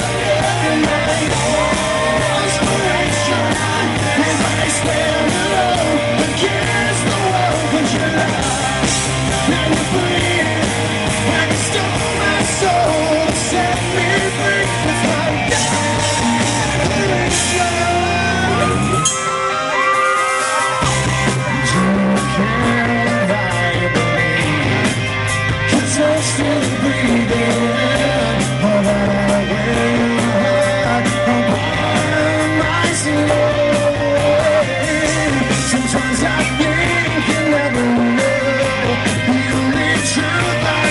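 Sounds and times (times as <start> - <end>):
man singing: 0.0 - 19.9, 20.5 - 40.9
bass guitar: 0.0 - 40.9
drums: 0.0 - 40.9
electric guitar: 0.0 - 40.9.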